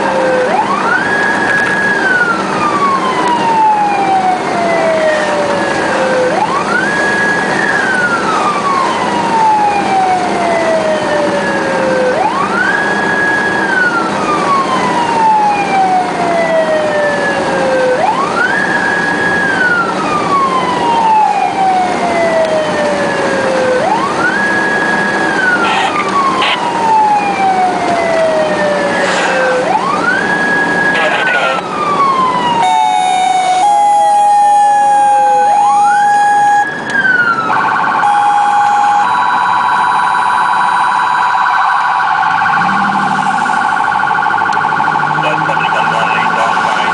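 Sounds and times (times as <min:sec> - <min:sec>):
emergency siren wailing: 0:00.0 - 0:46.9
road noise: 0:00.0 - 0:46.9.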